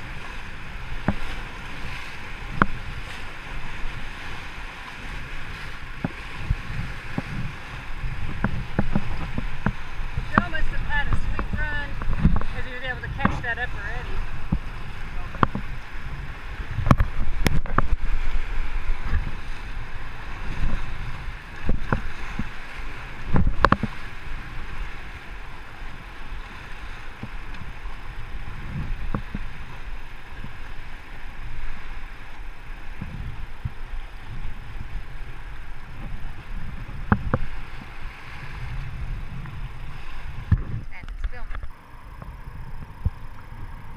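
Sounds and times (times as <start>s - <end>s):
rushing whitewater: 0.0s - 43.9s
wind rumbling on microphone: 0.0s - 43.9s.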